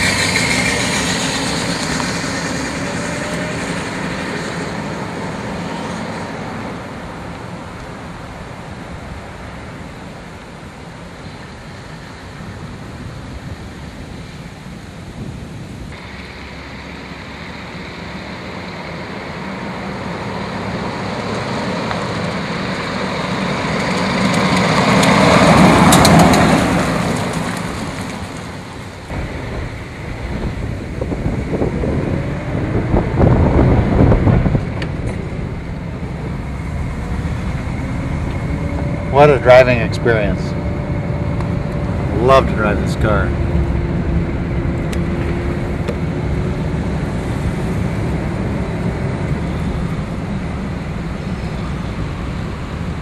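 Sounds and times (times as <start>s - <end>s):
car driving past: 0.0s - 8.4s, 15.9s - 53.0s
wind noise: 0.0s - 53.0s.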